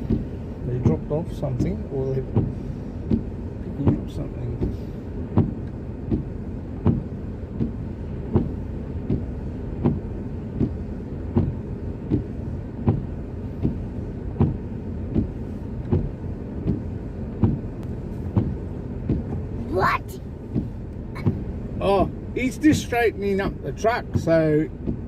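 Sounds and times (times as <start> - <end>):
car engine idling: 0.0 - 25.0
car indicator ticking: 0.0 - 25.0.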